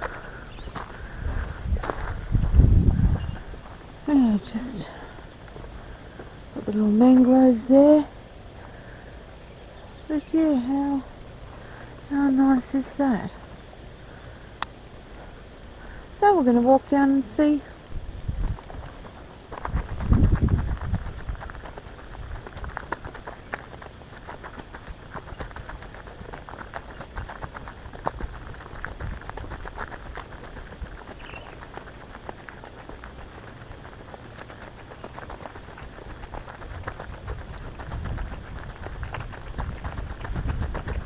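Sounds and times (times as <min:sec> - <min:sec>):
footsteps crunching on dry track: 0:00.0 - 0:41.0.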